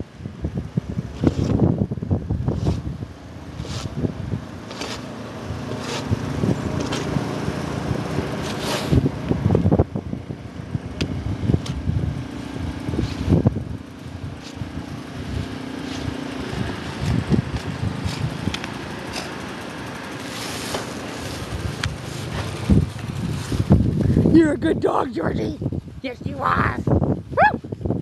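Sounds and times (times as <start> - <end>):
wind noise on microphone: 0.0 - 19.4, 21.1 - 28.0
engine humming: 0.0 - 26.6.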